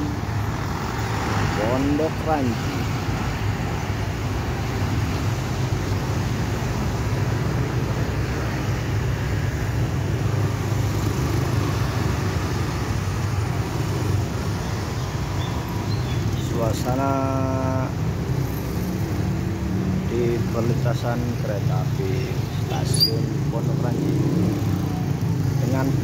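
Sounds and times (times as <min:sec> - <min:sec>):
motor scooters going by: 0:00.0 - 0:26.0
road traffic passing: 0:00.0 - 0:26.0.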